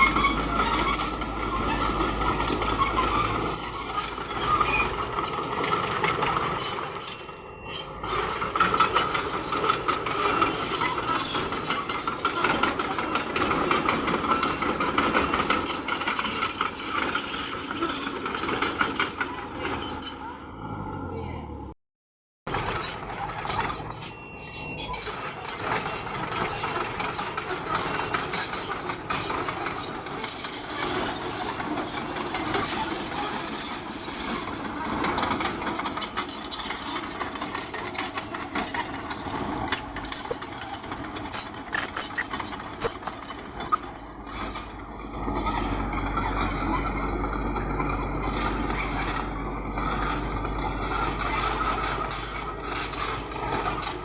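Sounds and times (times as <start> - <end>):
tracks clanking and scraping stone: 0.0 - 20.3, 22.5 - 54.0
bulldozer engine running: 0.0 - 21.7, 22.5 - 54.0.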